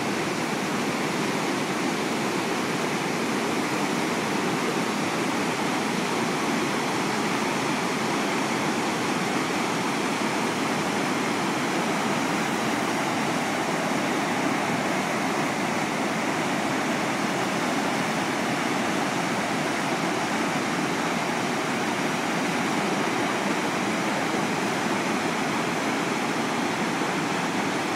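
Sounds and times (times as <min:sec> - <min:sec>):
rush of falling water: 0:00.0 - 0:27.9.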